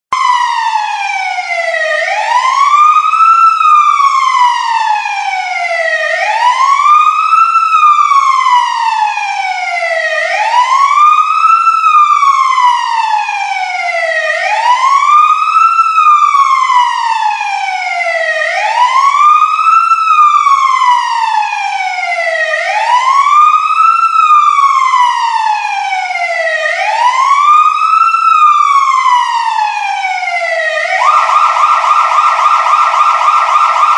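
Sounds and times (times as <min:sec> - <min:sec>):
fire truck siren wailing: 0:00.1 - 0:33.9.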